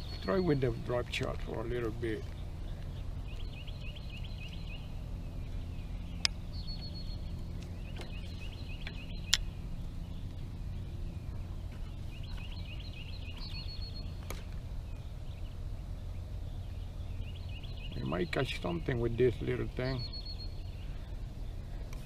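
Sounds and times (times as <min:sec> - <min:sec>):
bird singing chirping notes: 0:00.0 - 0:00.8, 0:02.2 - 0:21.6
steady low rumble: 0:00.0 - 0:22.0.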